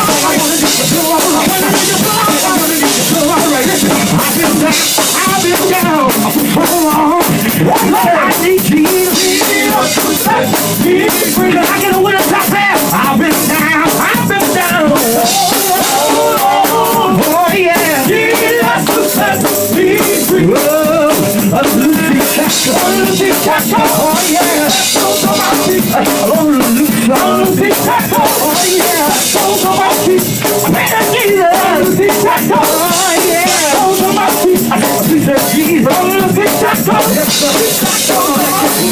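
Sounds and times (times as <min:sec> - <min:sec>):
drum kit: 0:00.0 - 0:38.9
male vocal group singing: 0:00.0 - 0:38.9.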